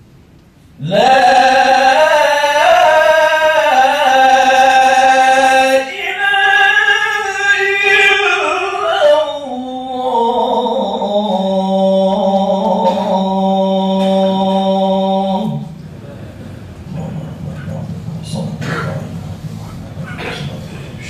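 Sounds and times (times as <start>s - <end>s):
man chanting call to prayer: 0.8s - 16.1s, 16.9s - 21.0s.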